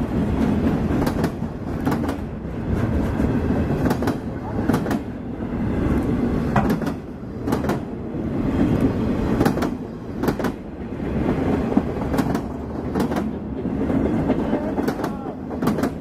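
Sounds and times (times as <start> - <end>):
wheels clicking over rail joints: 0.0 - 5.2, 5.8 - 16.0
train wheels rumbling: 0.0 - 16.0.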